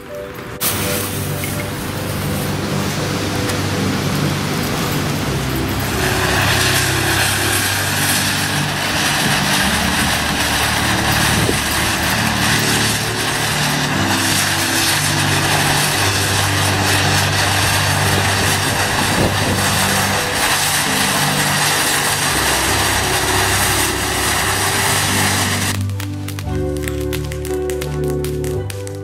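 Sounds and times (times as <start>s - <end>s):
background music low held notes: 0.0s - 29.0s
firework spraying sparks hissing: 0.6s - 29.0s.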